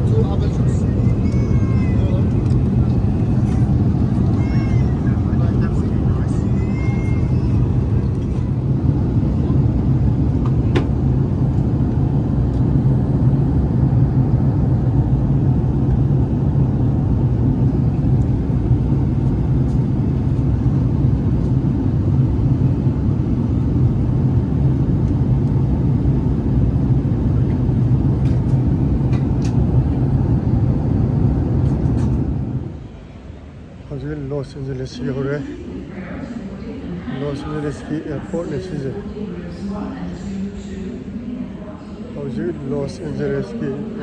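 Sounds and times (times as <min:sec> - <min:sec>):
airliner cabin rumble: 0:00.0 - 0:44.0.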